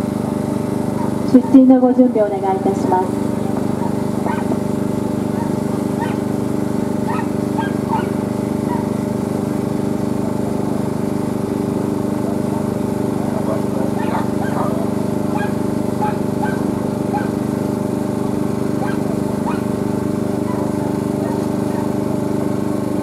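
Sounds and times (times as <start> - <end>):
engine drone: 0.0 - 23.0.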